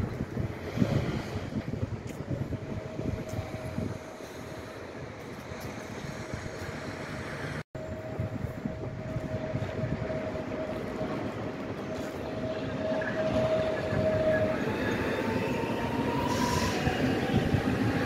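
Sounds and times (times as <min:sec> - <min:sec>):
train rumble: 0:00.0 - 0:18.0
constant whine: 0:01.5 - 0:16.1.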